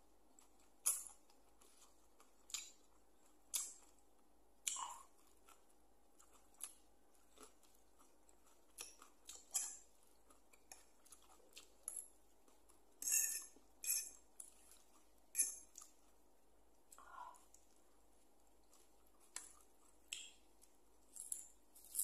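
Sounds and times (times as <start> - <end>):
chewing: 0.3 - 16.2, 16.8 - 22.0.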